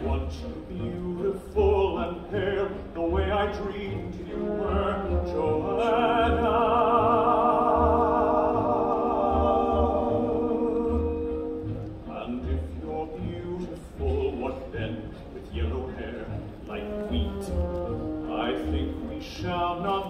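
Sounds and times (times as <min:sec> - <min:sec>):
orchestra playing: 0:00.0 - 0:20.0.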